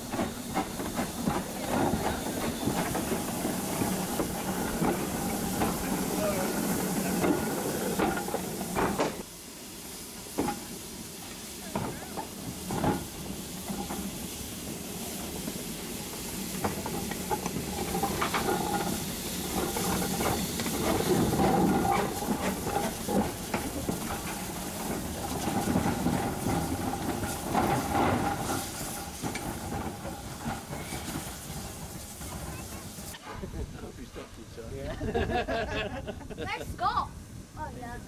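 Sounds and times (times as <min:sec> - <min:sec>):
train wheels clicking over rails: 0:00.0 - 0:34.4
steam hissing: 0:00.0 - 0:38.0.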